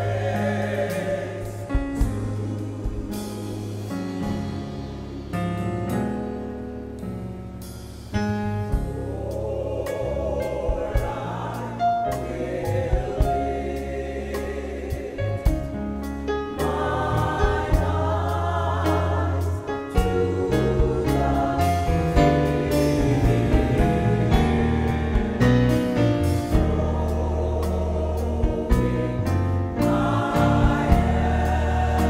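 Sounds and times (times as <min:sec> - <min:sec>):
gospel choir singing: 0:00.0 - 0:06.6, 0:08.0 - 0:32.0
sustained bass notes: 0:00.0 - 0:32.0.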